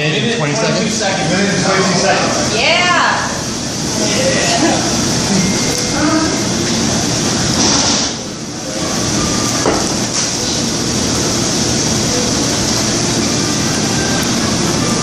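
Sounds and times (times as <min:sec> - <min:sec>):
restaurant background noise: 0:00.0 - 0:15.0.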